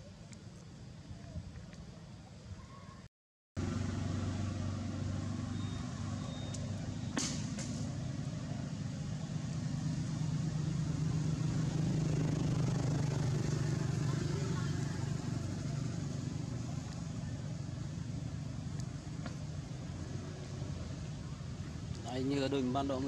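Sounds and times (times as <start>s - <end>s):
vehicle engine running: 3.6s - 23.0s.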